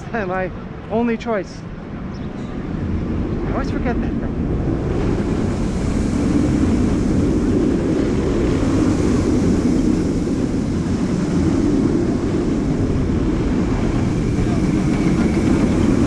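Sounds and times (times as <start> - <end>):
roller coaster rumbling on track: 0.0 - 16.0.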